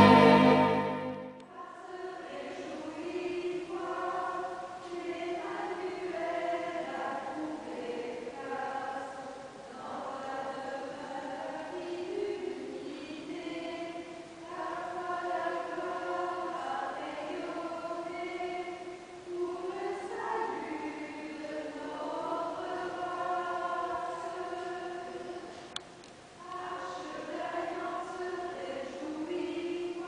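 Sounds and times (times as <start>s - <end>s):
choir singing: 0.0s - 25.5s, 26.4s - 30.0s.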